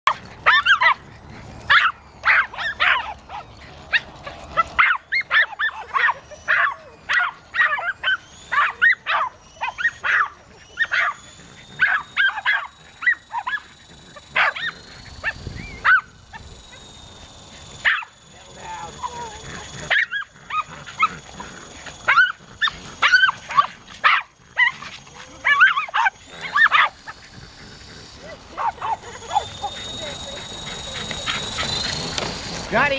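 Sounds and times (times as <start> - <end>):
helicopter motor whine: 0.1 - 32.9
small dogs barking: 0.1 - 32.9.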